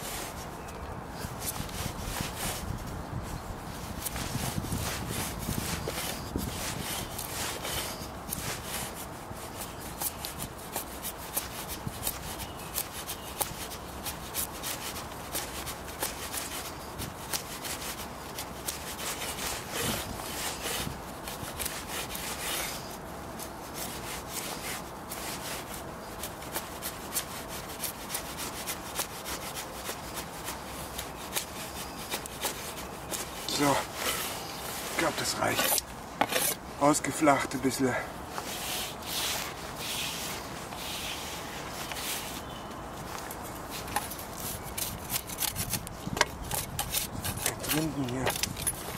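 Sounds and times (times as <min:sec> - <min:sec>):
machete scraping wood: 0:03.8 - 0:48.9.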